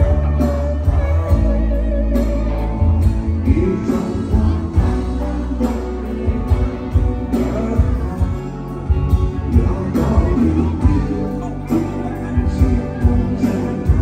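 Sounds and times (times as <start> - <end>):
bass guitar: 0.0 - 14.0
electric guitars: 0.0 - 14.0
man singing into a microphone: 0.0 - 14.0
steady drum beat: 0.0 - 14.0.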